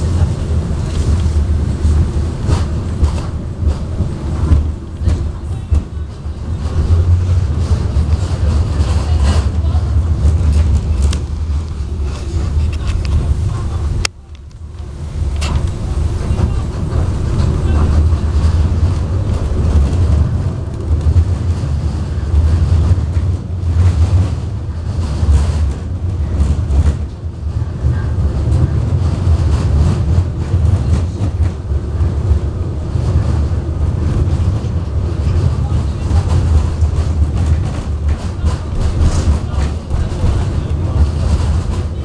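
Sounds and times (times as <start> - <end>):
tram wheels rumbling on rails: 0.0 - 42.0.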